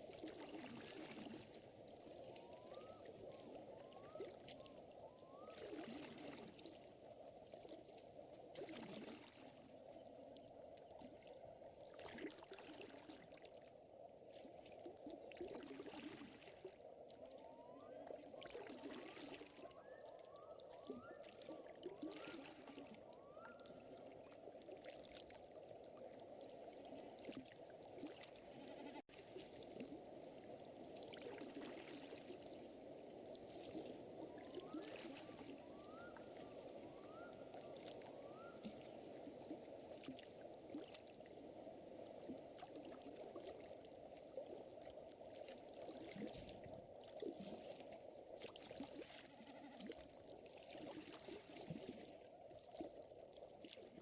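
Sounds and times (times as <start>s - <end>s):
water lapping and trickling: 0.0s - 54.0s.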